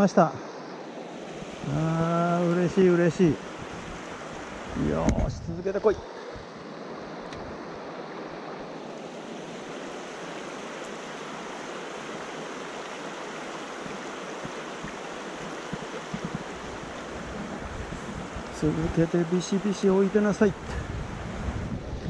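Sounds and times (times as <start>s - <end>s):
stream rushing over stones: 0.0s - 22.0s.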